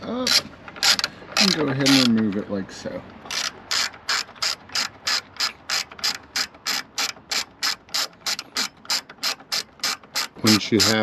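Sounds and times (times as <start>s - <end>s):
ratchet wrench clicking: 0.2s - 2.3s, 3.3s - 11.0s.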